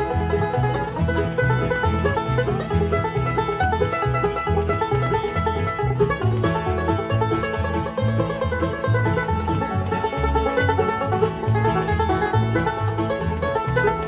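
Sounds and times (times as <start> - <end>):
bass line: 0.0 - 14.0
picked string notes: 0.0 - 14.0.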